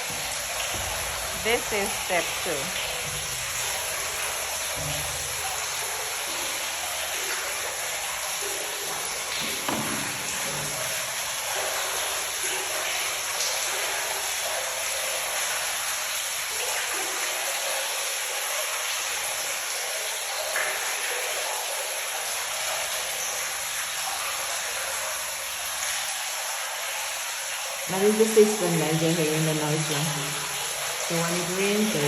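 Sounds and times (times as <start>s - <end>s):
rainwater splashing into cistern: 0.0s - 32.0s.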